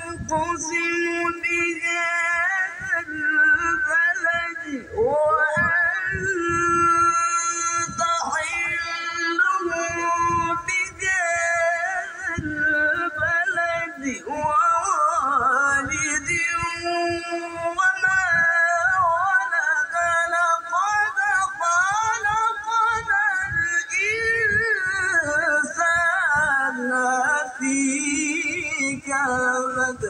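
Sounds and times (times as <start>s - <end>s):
man singing melodic line: 0.0s - 30.0s.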